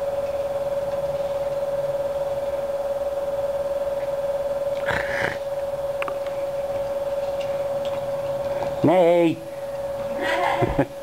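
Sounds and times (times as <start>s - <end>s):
high-pitched hum: 0.0s - 11.0s.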